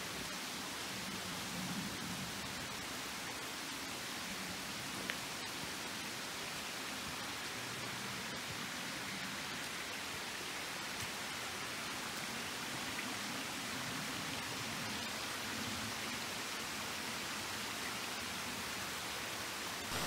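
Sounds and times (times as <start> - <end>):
stream running over stones: 0.0 - 20.0.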